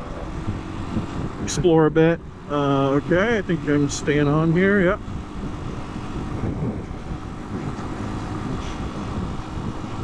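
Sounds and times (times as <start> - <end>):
wind noise on microphone: 0.0 - 2.5, 4.0 - 10.0
motorcycle engine hum: 0.0 - 10.0.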